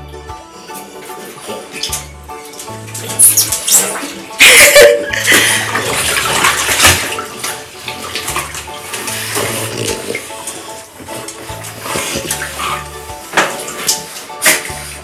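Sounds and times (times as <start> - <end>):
bath water splashing: 0.0 - 15.0.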